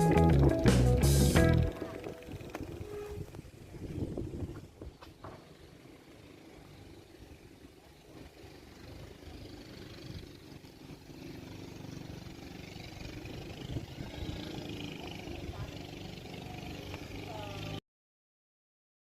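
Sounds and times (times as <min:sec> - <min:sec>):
engine running: 0:00.0 - 0:17.8.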